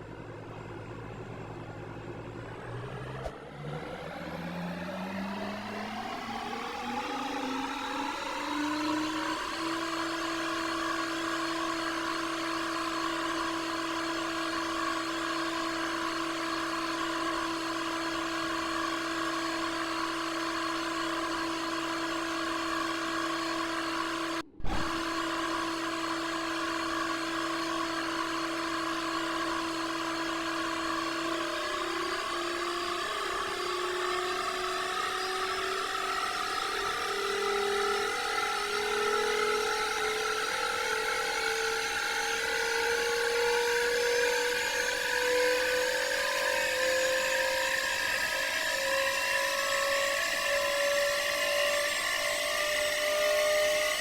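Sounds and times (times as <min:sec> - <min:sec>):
washing machine motor whining: 0:03.9 - 0:54.0.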